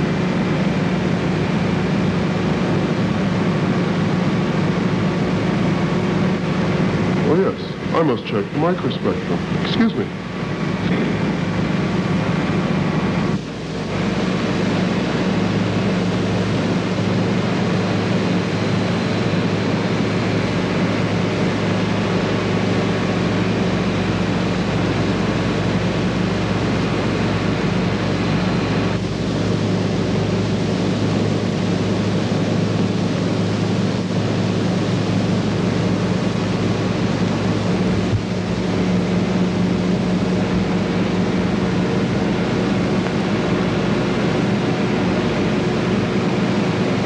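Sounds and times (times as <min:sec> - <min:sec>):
machinery humming: 0:00.0 - 0:47.0.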